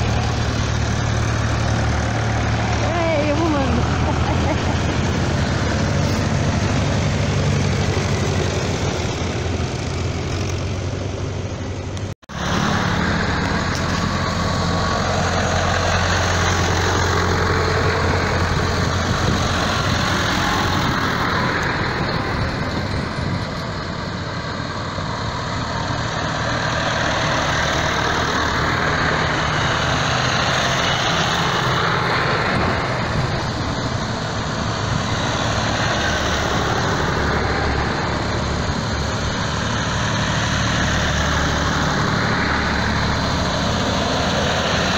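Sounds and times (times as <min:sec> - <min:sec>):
tractor engines droning: 0:00.0 - 0:44.9.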